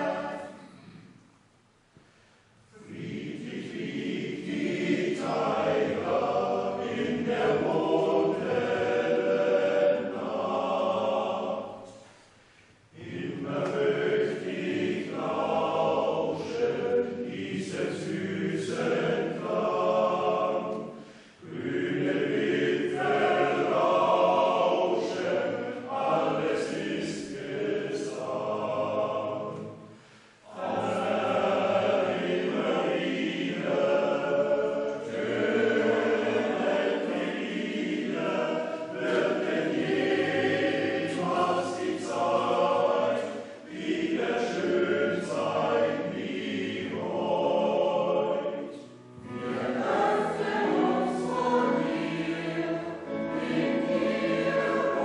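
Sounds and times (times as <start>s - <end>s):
men's choir singing: 0.0s - 0.8s, 2.8s - 12.2s, 12.9s - 55.0s.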